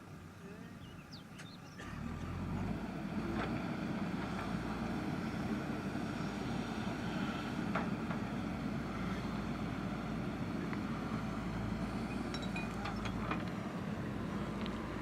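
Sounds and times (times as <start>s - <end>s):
diesel engine running: 1.4s - 15.0s.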